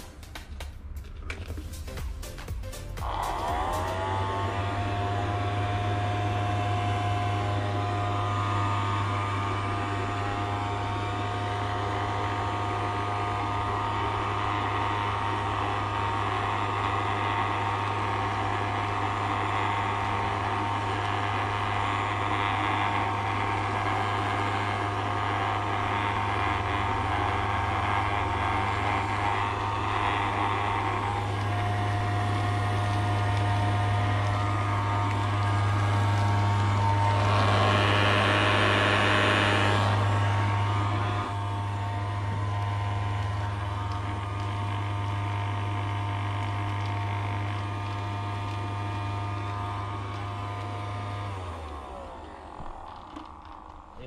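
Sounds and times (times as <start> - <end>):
small vacuum motor humming and whining: 3.0 - 54.0.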